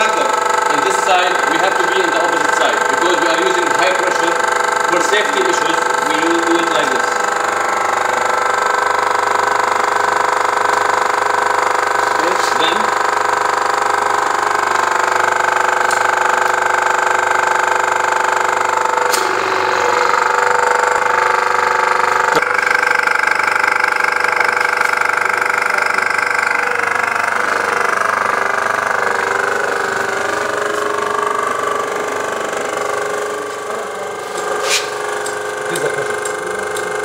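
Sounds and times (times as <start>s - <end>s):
pump humming under load: 0.0s - 37.0s.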